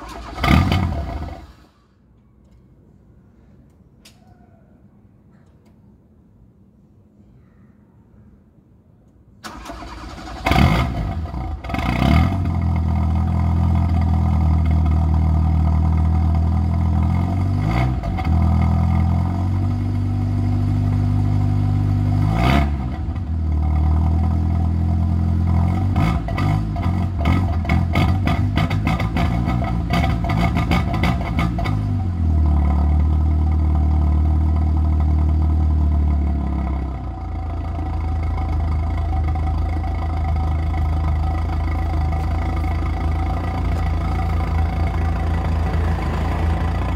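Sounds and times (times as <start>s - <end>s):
car engine starting and revving: 0.0s - 1.7s, 9.4s - 46.9s.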